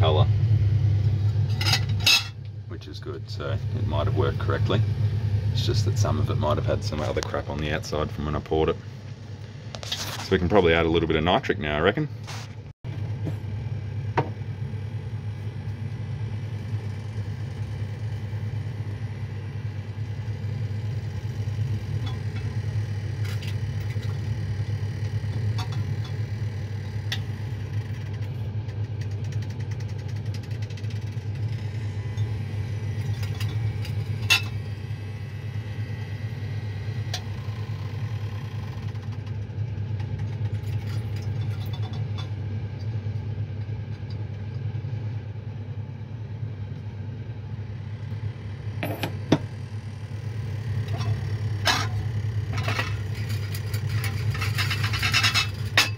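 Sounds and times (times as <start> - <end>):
low motor hum: 0.0 - 55.9.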